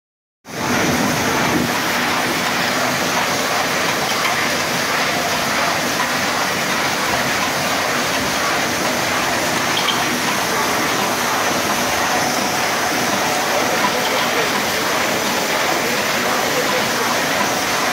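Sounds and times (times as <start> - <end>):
die-cutting machine running: 0.5 - 17.9.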